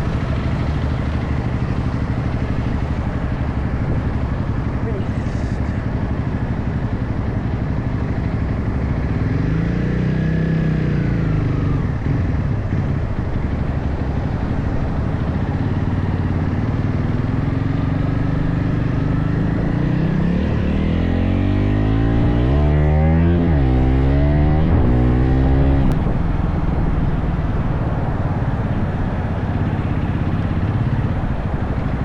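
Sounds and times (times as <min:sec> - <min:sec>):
motorcycle engine revving: 0:00.0 - 0:32.0
wind and road noise: 0:00.0 - 0:32.0.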